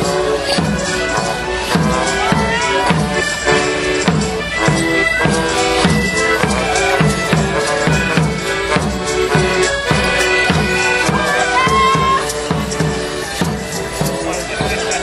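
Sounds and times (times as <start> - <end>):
live folk band playing: 0.0 - 15.0.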